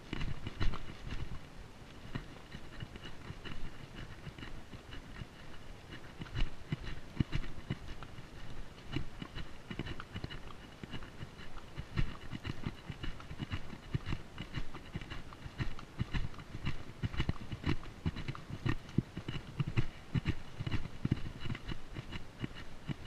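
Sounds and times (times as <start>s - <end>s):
horse hooves on rocky trail: 0.0s - 23.0s.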